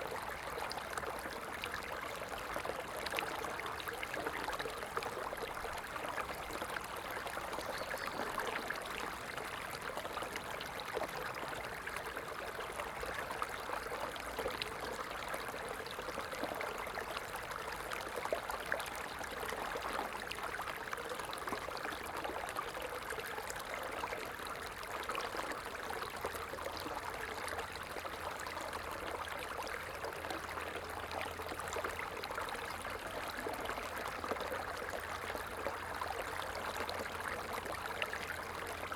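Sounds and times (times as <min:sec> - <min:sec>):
stream water flowing and trickling: 0:00.0 - 0:38.9.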